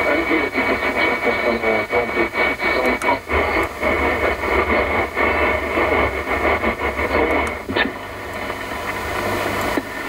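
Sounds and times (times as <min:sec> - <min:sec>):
low hum: 0:00.0 - 0:10.0
radio static with crackles: 0:00.0 - 0:10.0.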